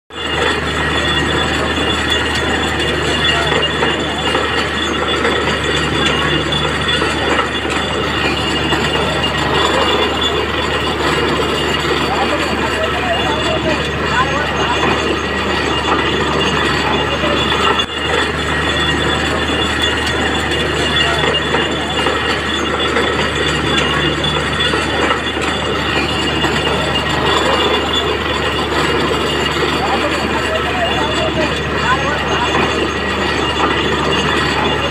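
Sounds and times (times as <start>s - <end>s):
engine and compressor drone: 0.1s - 34.9s
water gushing from bore: 0.2s - 34.9s.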